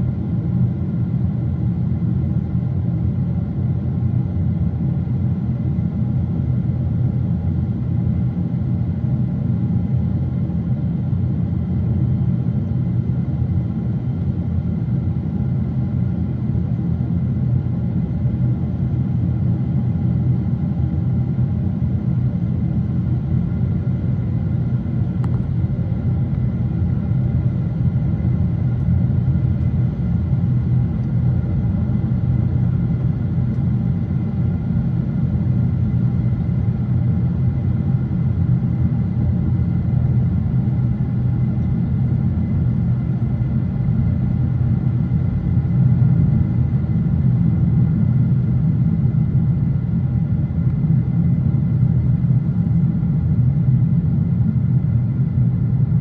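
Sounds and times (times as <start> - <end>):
airplane cabin engine roar: 0.0 - 56.0
faint steady whine: 0.0 - 56.0.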